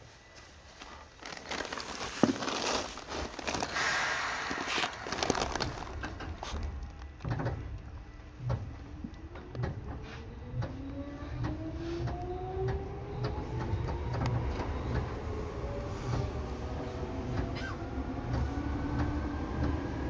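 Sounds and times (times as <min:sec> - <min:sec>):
traction motor hum rising: 0:03.7 - 0:20.0.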